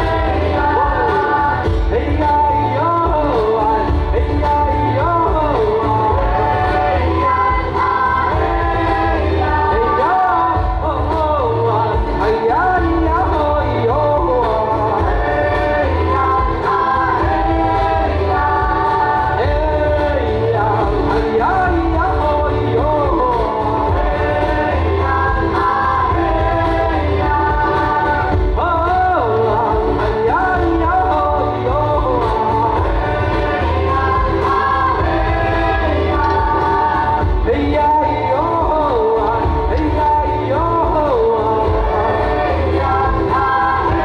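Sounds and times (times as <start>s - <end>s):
steady bass line: 0.0s - 44.0s
voices singing together: 0.0s - 44.0s.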